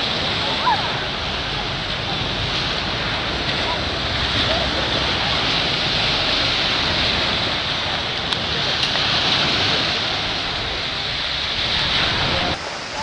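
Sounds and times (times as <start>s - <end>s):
waves washing on shore: 0.0s - 13.0s.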